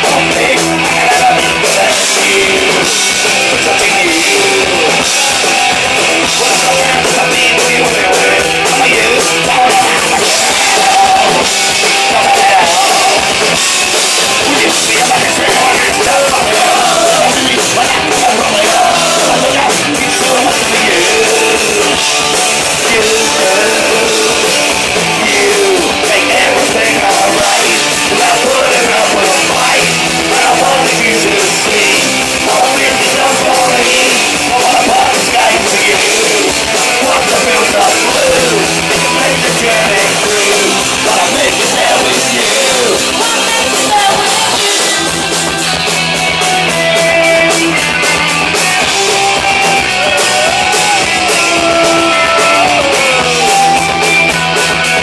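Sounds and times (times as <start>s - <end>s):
drum kit with crashing cymbals: 0.0s - 55.0s
electric guitar: 0.0s - 55.0s.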